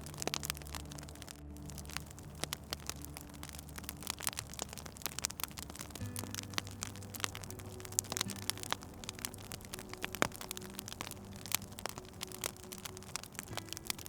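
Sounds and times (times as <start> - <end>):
low steady hum: 0.0 - 14.0
wood fire crackling: 0.0 - 14.0.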